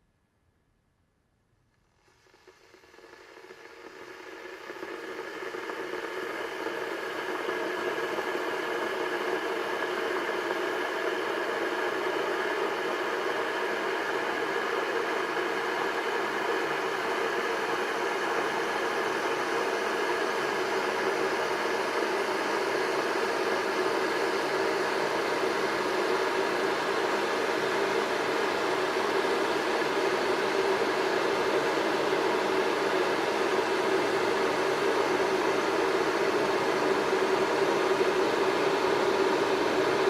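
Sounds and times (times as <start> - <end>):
electric kettle heating water: 2.0 - 40.0.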